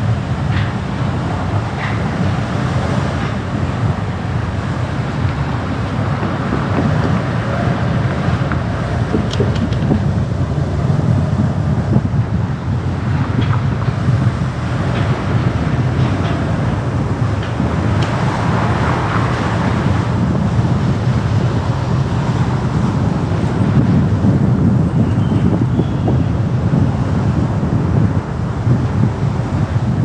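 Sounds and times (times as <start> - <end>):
car road noise rumble: 0.0 - 30.0.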